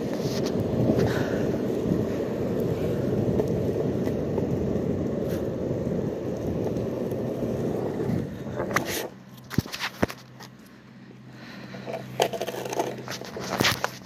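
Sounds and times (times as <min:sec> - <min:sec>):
skateboard wheels rolling on pavement: 0:00.0 - 0:14.0.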